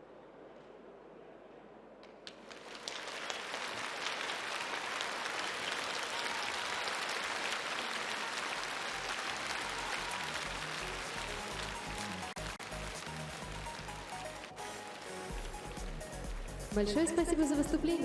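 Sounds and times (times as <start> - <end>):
audience applauding: 2.2 - 16.8.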